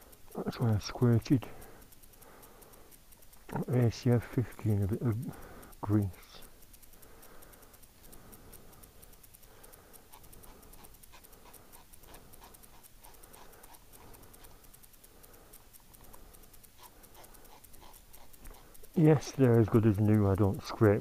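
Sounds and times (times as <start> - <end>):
faint panting breaths: 0.0 - 21.0
fast faint ticking: 0.0 - 21.0.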